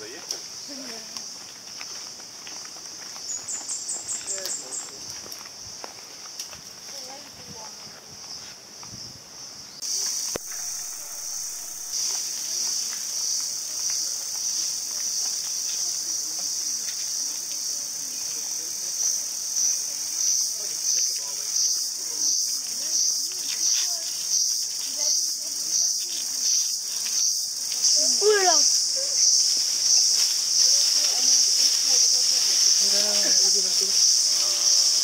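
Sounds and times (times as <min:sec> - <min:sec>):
cicadas droning: 0:00.0 - 0:35.0.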